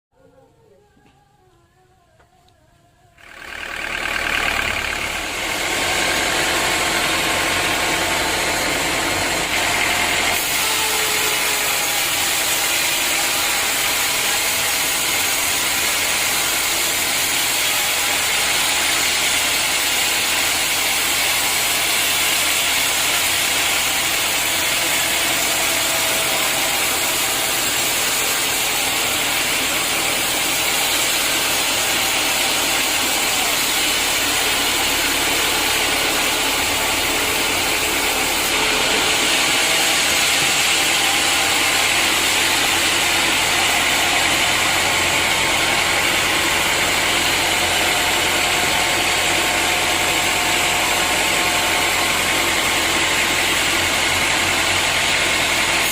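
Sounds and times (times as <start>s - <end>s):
sawmill machinery running: 3.2s - 55.9s.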